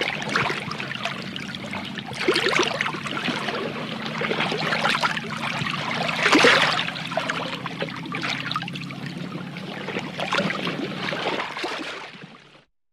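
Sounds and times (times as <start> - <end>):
water trickling and splashing: 0.0 - 12.7.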